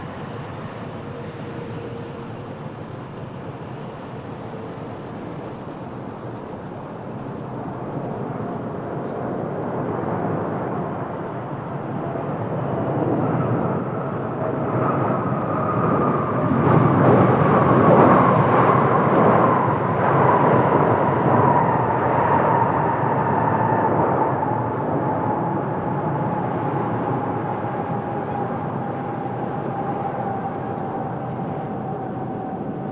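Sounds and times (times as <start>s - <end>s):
jet airliner engines roaring: 0.0s - 32.9s
jet engine whine: 0.0s - 32.9s.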